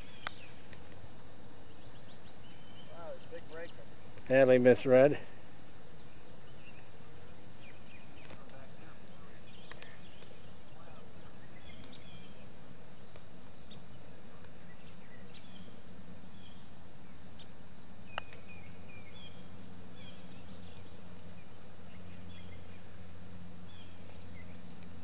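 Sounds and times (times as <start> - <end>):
birds chirping: 0.0 - 25.0
outdoor hiss: 0.0 - 25.0.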